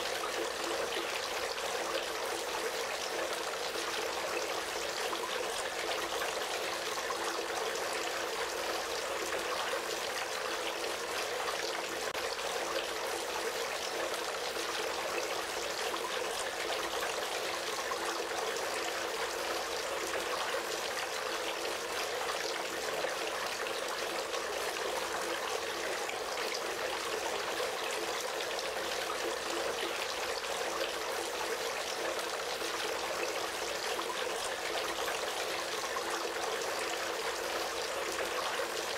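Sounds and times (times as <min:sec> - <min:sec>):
fountain water trickling and splashing: 0:00.0 - 0:38.9.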